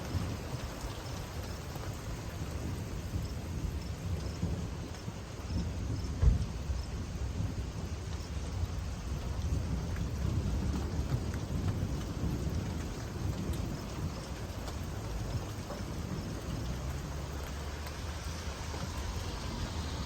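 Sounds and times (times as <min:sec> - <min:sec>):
rain falling: 0:00.0 - 0:20.0
thunder rumbling: 0:00.0 - 0:20.0.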